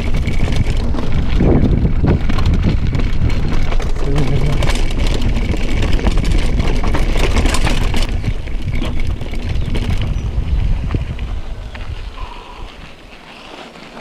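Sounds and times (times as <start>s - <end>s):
wind rumble on microphone: 0.0s - 13.2s
bike clattering and rattling: 0.0s - 14.0s.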